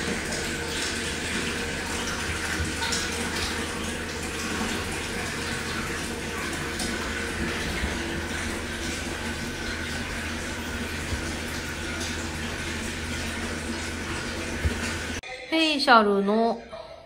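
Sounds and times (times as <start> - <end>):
running water rushing: 0.0 - 15.2.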